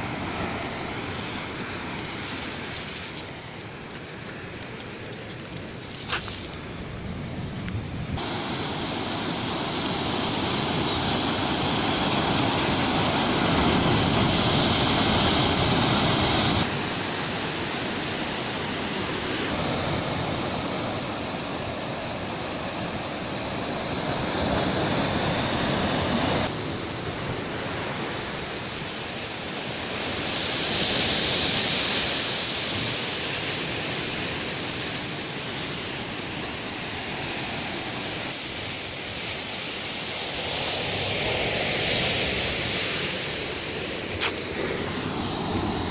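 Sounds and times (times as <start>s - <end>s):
ocean surf: 0.0s - 45.9s
wind: 0.0s - 45.9s.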